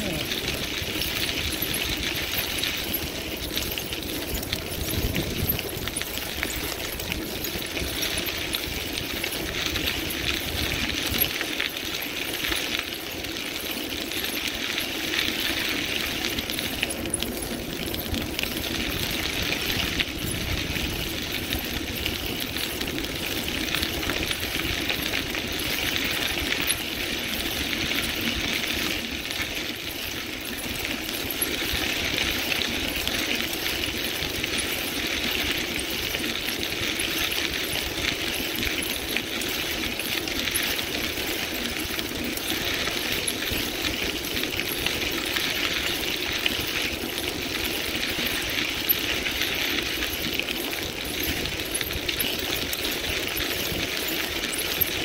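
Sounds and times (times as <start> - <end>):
bicycle tyres on gravel: 0.0 - 55.0
rapid rattling and clicking: 0.0 - 55.0.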